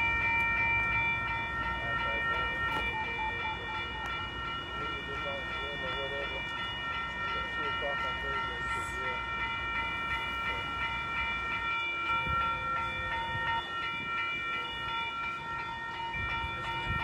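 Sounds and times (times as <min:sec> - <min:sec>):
freight train rumble: 0:00.0 - 0:17.0.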